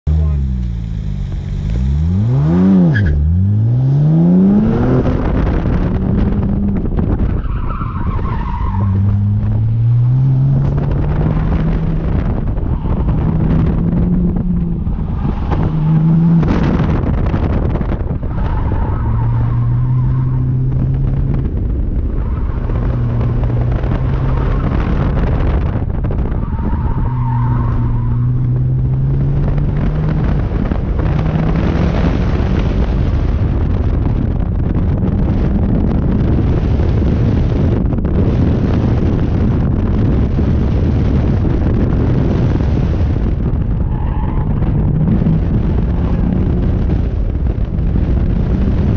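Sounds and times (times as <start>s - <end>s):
car engine revving: 0.0s - 48.9s
road and wind noise: 0.0s - 48.9s.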